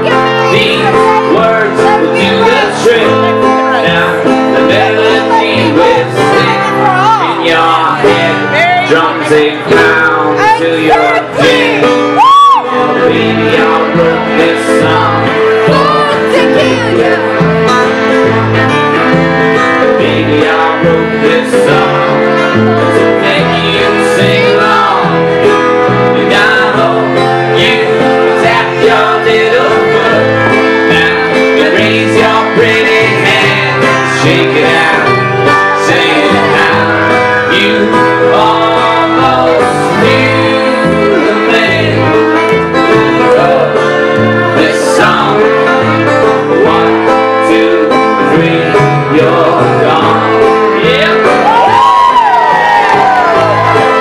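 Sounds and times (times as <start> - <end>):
acoustic guitar: 0.0 - 54.0
banjo: 0.0 - 54.0
fiddle: 0.0 - 54.0
upright bass: 0.0 - 54.0.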